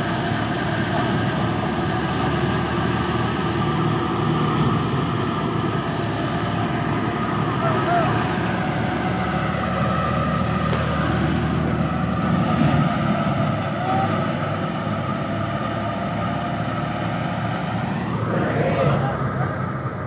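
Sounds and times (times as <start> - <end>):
thresher mechanical drone: 0.1 - 20.0.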